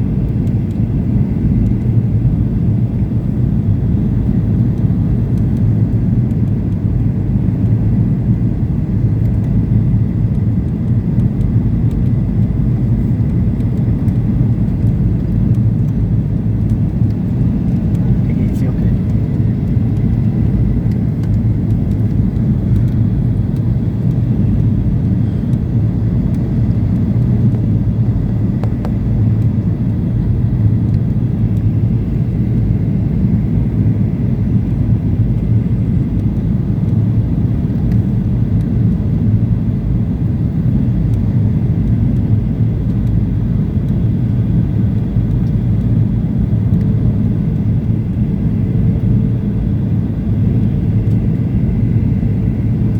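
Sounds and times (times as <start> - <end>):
airplane cabin drone: 0.0 - 52.9.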